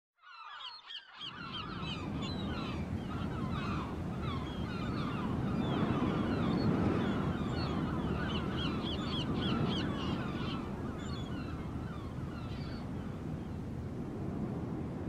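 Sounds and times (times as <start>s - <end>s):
flock of birds chattering: 0.3s - 13.0s.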